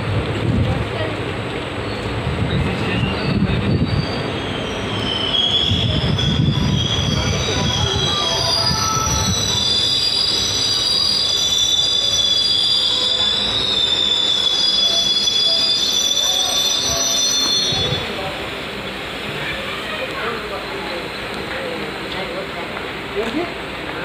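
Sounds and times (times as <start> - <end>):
train wheels squealing on rails: 1.0 - 24.0.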